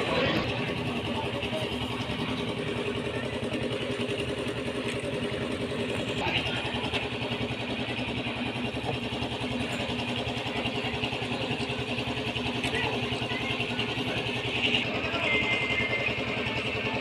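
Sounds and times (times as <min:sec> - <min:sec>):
engine running with fast chug: 0:00.0 - 0:17.0.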